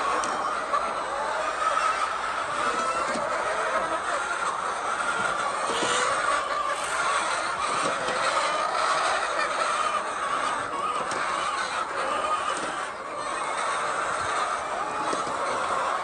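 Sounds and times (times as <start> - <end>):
flock of hens clucking: 0.0 - 16.0.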